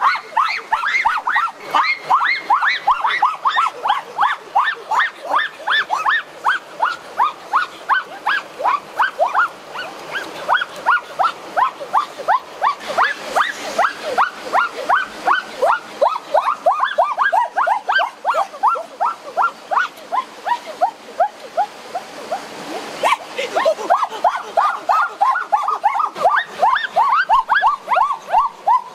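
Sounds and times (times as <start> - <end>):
animal calling: 0.0 - 28.9.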